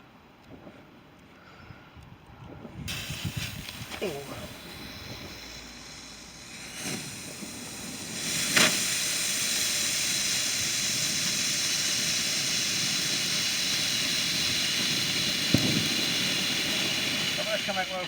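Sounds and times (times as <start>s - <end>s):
firework hissing: 2.8s - 18.0s
firework pops: 2.8s - 18.0s.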